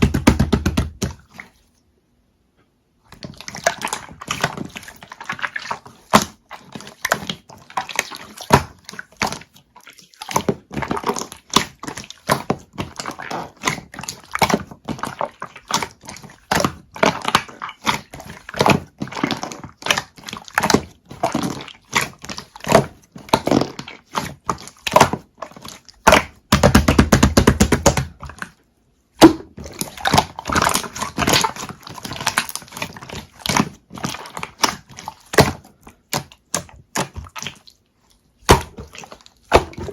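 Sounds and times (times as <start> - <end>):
slime squishing with sticky clicks: 3.0 - 39.9.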